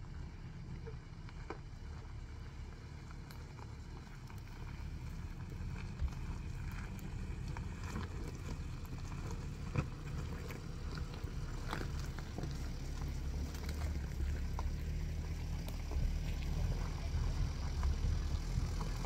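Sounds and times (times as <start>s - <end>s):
diesel engine running slowly: 0.0s - 19.0s
stones clicking under tyres: 0.0s - 19.0s.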